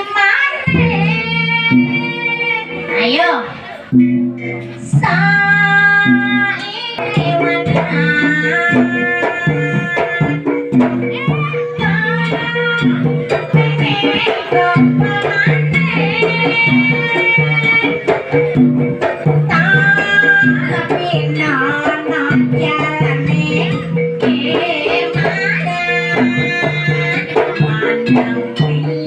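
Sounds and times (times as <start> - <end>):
hand drums: 0.1 - 29.0
high wavering melody: 0.6 - 29.0.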